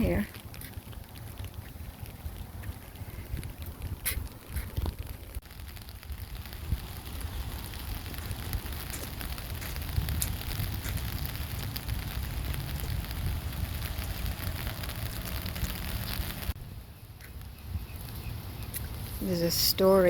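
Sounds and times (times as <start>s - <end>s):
rain pattering: 0.0s - 20.0s
wind rumble on microphone: 0.0s - 20.0s.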